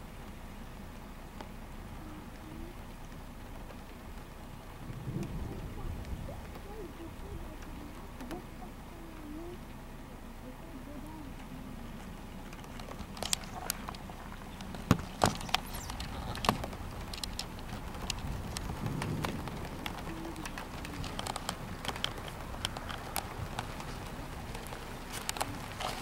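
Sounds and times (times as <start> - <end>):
low background noise: 0.0 - 26.0
raindrops tapping: 0.0 - 26.0.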